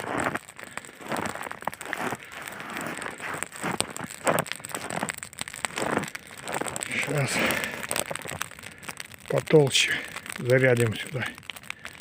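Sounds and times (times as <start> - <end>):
campfire crackling and popping: 0.0 - 12.0
rustling and crunching movement: 0.0 - 12.0.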